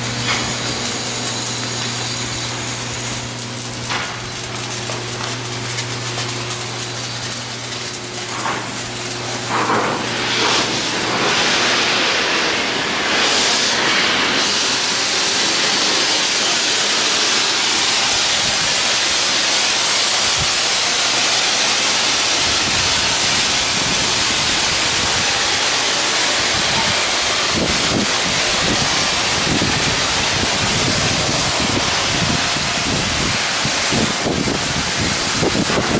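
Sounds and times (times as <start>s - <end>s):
loud steady hiss: 0.0s - 35.9s.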